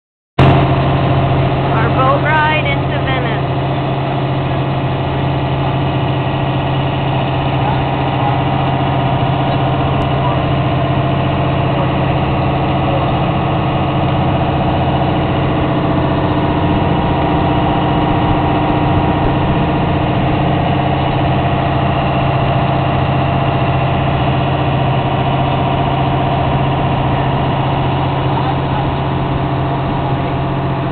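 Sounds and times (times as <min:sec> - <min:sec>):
motorboat engine running: 0:00.4 - 0:30.9.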